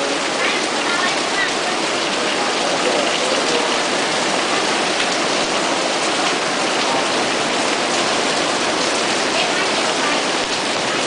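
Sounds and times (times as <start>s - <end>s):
heavy rain on pavement and awning: 0.0s - 11.0s.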